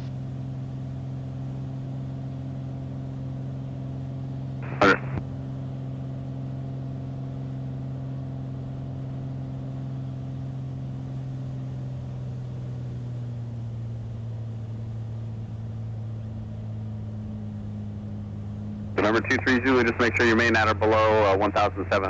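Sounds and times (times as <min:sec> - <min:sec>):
aircraft piston engine and propeller: 0:00.0 - 0:22.0.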